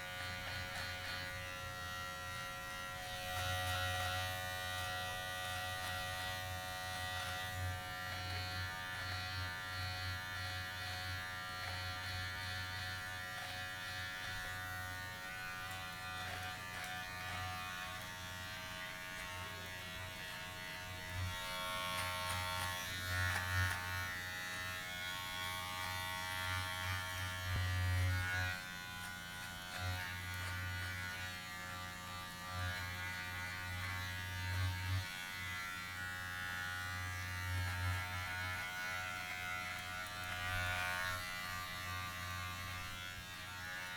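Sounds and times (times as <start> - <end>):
electric shaver motor hum: 0.0 - 43.9
rasping shaver cutting: 0.0 - 43.9.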